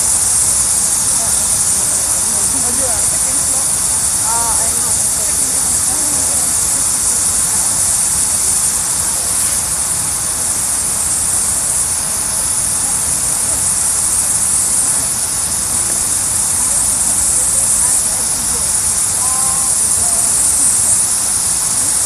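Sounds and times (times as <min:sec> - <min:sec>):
water fountain splashing: 0:00.0 - 0:22.0.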